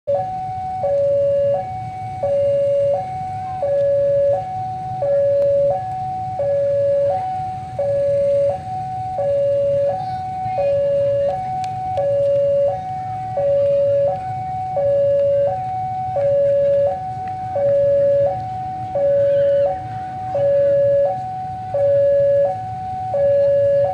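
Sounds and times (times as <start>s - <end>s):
level crossing two-tone alarm: 0.1s - 23.9s
steady low rumble: 0.1s - 23.9s.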